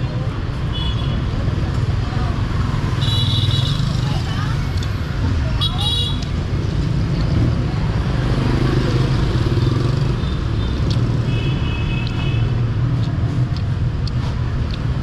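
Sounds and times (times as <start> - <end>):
motorbikes and cars passing: 0.0 - 15.0.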